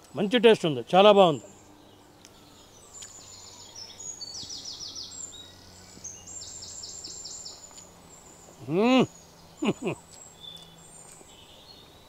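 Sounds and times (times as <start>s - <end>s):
small bird singing: 0.0s - 12.0s
faint bird chirps: 1.3s - 12.0s.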